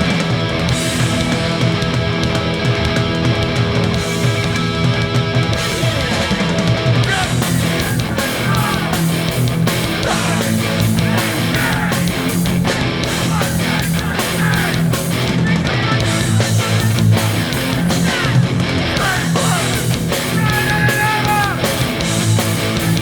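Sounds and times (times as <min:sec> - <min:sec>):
punk band playing live: 0:00.0 - 0:23.0.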